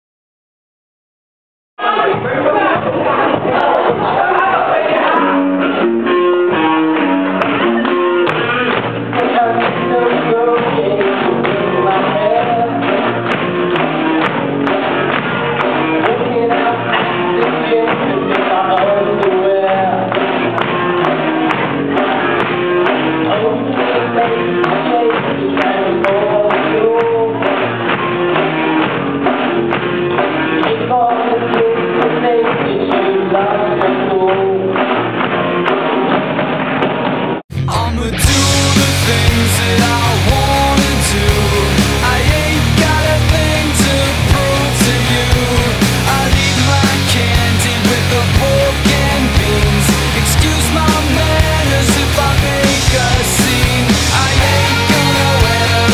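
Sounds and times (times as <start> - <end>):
lead singer's voice: 1.8 - 36.0, 37.5 - 55.9
drum kit beat: 1.8 - 36.8, 37.5 - 55.9
electric guitars: 2.2 - 36.6, 37.6 - 55.9.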